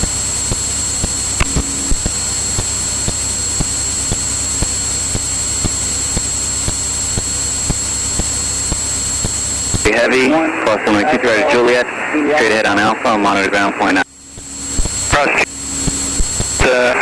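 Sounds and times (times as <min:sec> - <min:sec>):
airplane cabin engine noise: 0:00.0 - 0:17.0
high electrical whine: 0:00.0 - 0:17.0.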